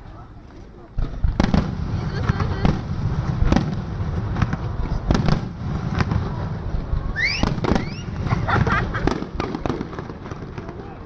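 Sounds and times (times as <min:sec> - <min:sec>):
firework bursts and cracks: 0:01.0 - 0:11.0.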